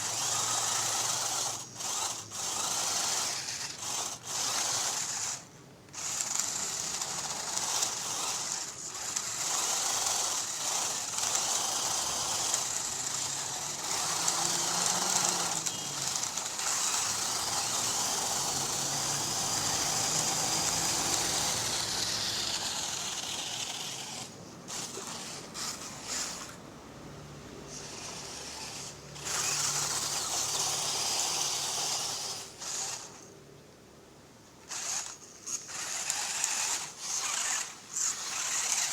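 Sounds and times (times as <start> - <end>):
electric motor and gearbox whining: 0.0 - 26.6, 27.7 - 33.3, 34.6 - 38.9.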